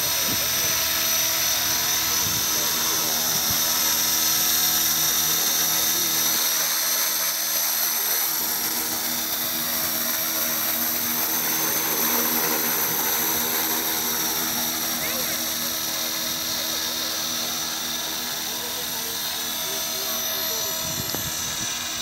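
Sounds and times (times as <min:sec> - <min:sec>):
electric motor whine: 0:00.0 - 0:22.0
rotor whoosh: 0:00.0 - 0:22.0.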